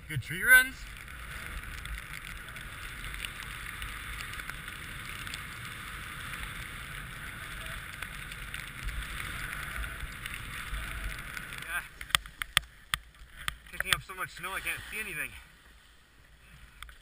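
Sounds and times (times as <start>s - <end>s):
wind buffeting microphone: 0.0s - 14.1s
snowboard sliding over snow: 0.0s - 17.0s.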